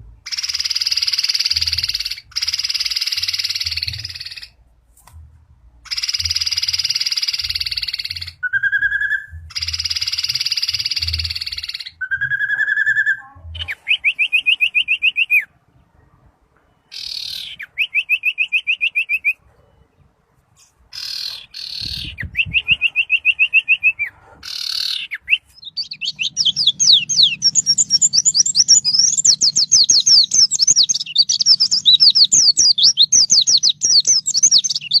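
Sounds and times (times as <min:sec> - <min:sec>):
small songbirds singing: 0:00.2 - 0:04.6, 0:05.8 - 0:35.0.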